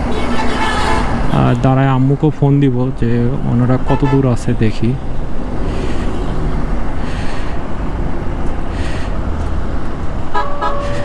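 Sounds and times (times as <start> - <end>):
motorcycle engine and road noise: 0.0 - 11.0.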